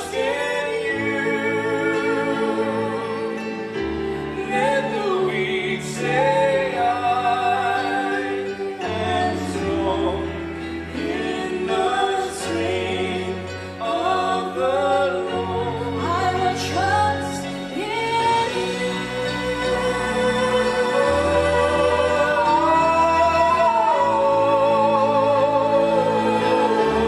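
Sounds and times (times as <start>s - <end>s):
voices singing worship song: 0.0s - 27.0s.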